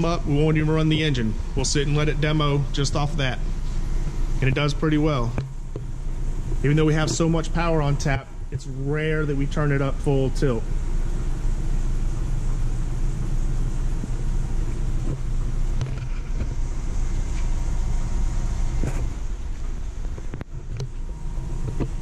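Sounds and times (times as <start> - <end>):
low droning rumble with hum: 0.0 - 22.0.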